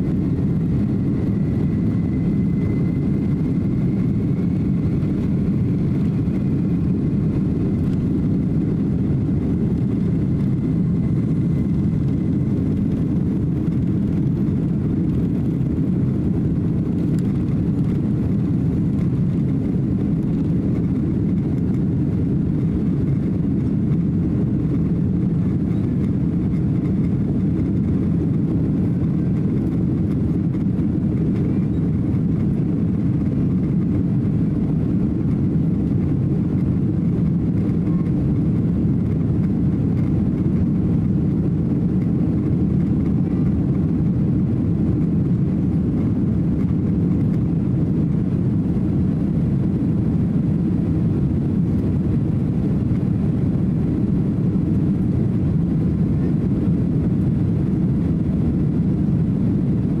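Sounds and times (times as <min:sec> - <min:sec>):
aircraft cabin rumble: 0:00.0 - 1:00.0.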